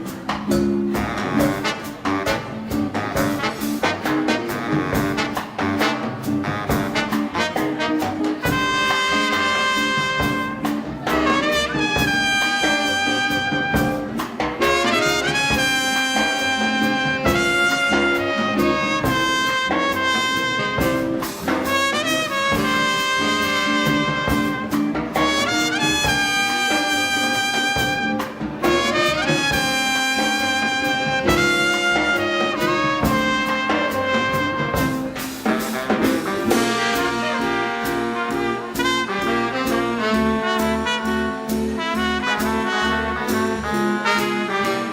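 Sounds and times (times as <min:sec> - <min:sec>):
brass and saxophone chords: 0:00.0 - 0:44.9
steady drum beat: 0:00.0 - 0:44.9
swing band playing: 0:00.0 - 0:44.9.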